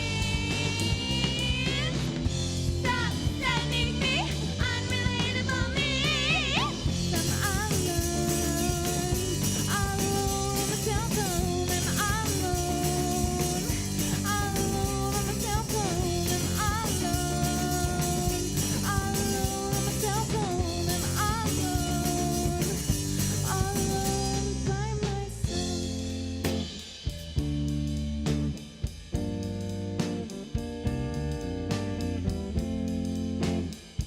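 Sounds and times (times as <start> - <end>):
rock song with guitar and drums: 0.0 - 34.0.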